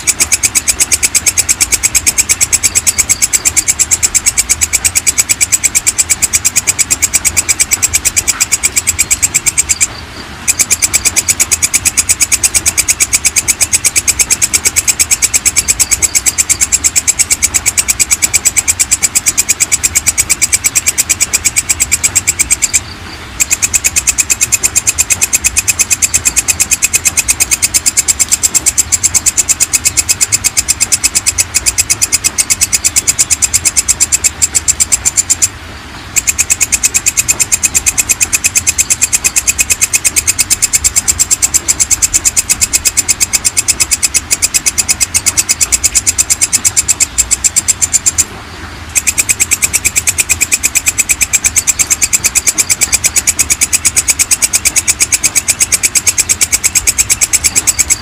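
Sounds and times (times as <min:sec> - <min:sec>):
katydid rasping chirps: 0:00.0 - 0:48.3, 0:48.9 - 0:58.0.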